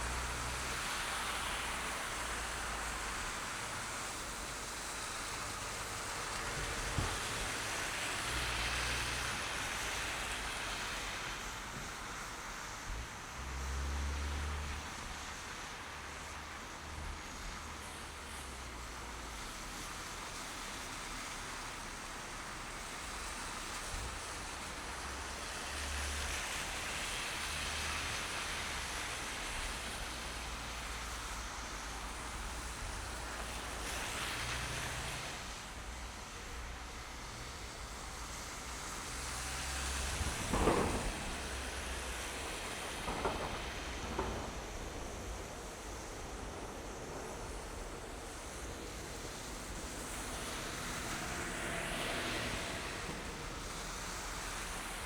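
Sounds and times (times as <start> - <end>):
passing traffic: 0.0 - 55.0.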